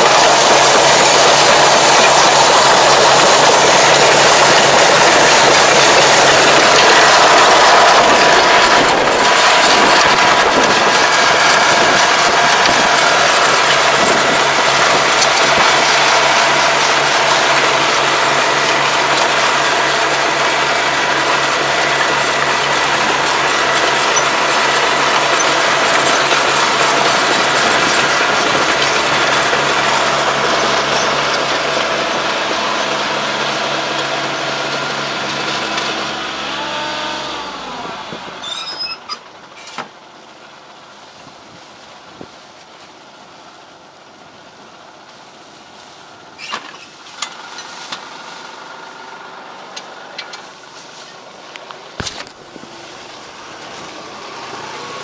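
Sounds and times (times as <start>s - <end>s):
mechanical clatter of implement: 0.0s - 40.0s, 45.1s - 55.0s
tractor engine running: 0.0s - 55.0s.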